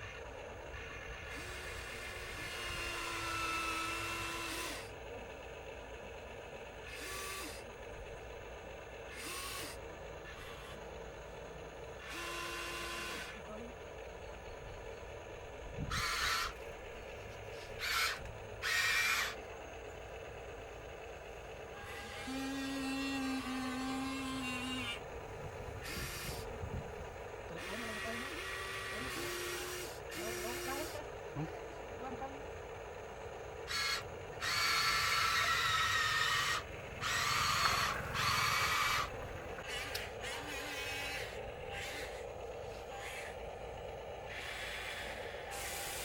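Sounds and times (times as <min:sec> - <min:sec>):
small electric motor whining: 0:00.0 - 0:46.0.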